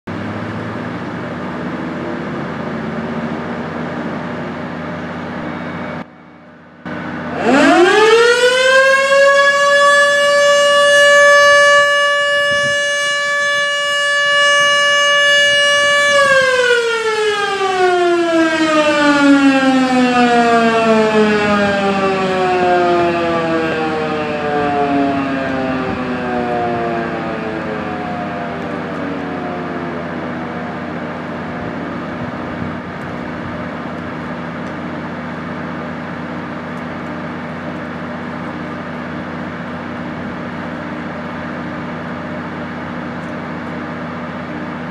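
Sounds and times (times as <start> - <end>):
fire station siren: 0.1 - 44.9.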